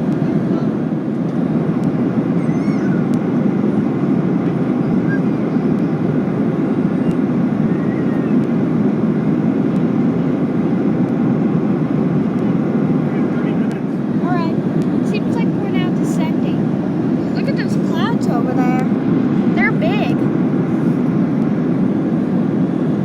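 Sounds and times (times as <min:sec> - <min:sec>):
air rushing along fuselage: 0:00.0 - 0:23.0
jet engine hum: 0:00.0 - 0:23.0.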